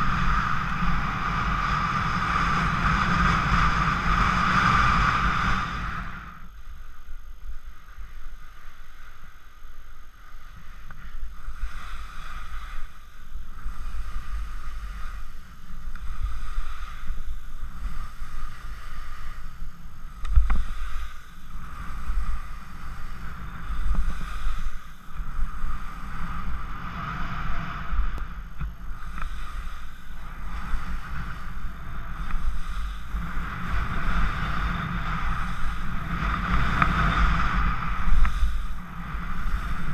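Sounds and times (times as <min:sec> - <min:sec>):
skis scraping over snow: 0:00.0 - 0:39.9
wind buffeting microphone: 0:00.0 - 0:39.9.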